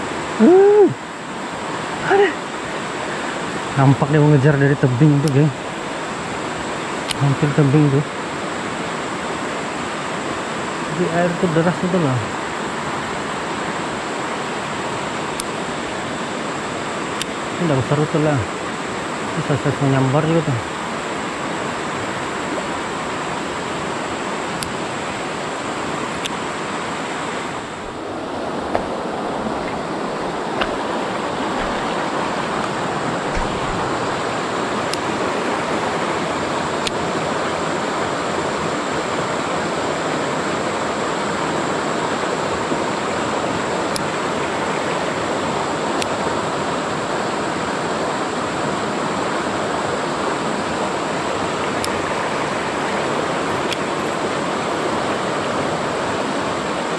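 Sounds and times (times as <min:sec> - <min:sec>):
mountain stream rushing: 0:00.0 - 0:56.9.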